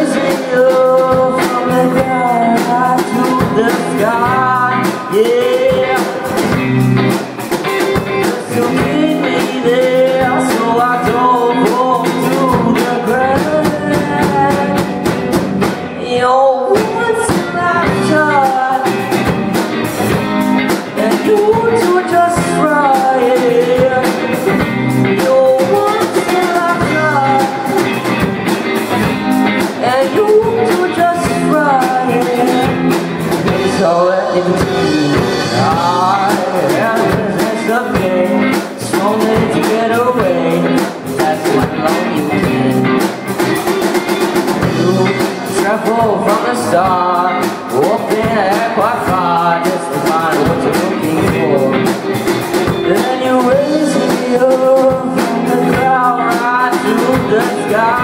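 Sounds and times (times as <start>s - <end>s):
drum kit: 0.0s - 58.0s
electric guitars: 0.0s - 58.0s
person singing: 0.0s - 58.0s.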